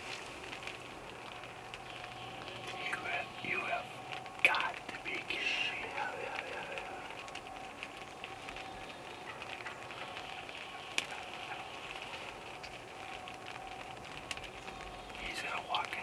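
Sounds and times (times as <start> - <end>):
faint crackles and ticks: 0.0 - 16.0
faint steady tone: 0.0 - 16.0
steady hiss: 0.0 - 16.0.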